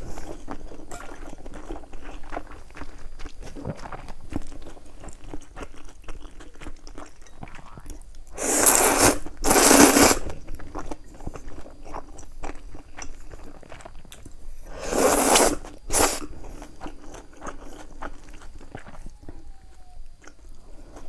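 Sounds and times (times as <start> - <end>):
soft chewing clicks: 0.1 - 8.4, 10.3 - 14.6, 15.6 - 21.0.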